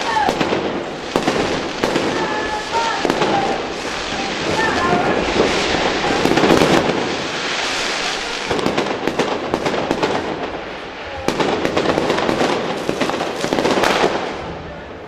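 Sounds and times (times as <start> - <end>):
fireworks bangs pops and crackles: 0.0 - 15.0.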